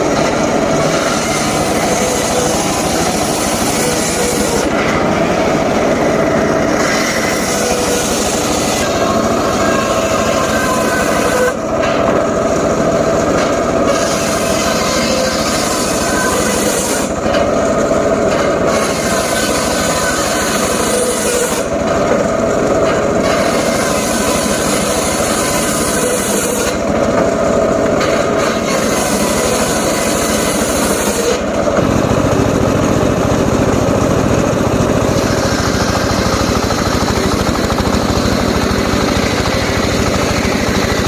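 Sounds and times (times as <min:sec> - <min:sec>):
circular saw cutting wood: 0:00.0 - 0:41.0.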